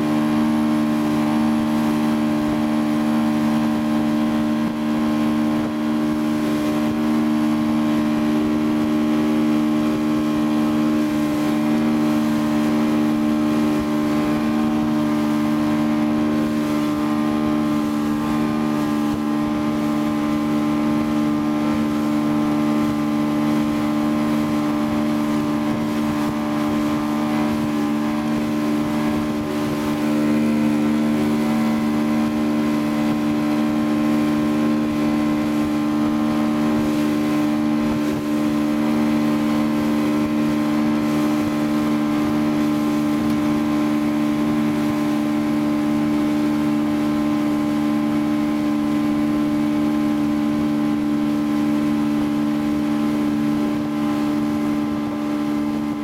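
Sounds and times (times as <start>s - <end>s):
motorboat engine droning: 0.0s - 56.0s
water rushing from hull: 0.0s - 56.0s.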